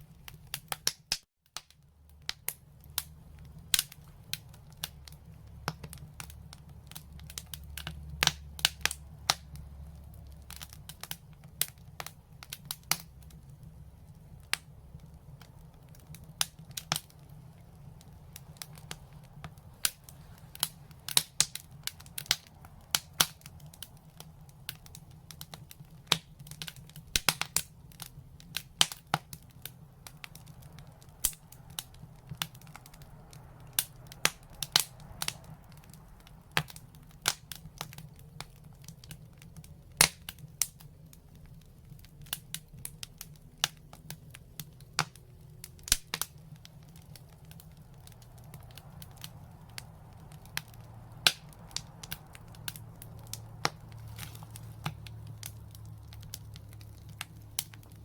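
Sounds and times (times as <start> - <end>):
fire crackling and popping: 0.0 - 58.0
low steady rumble: 1.8 - 58.0.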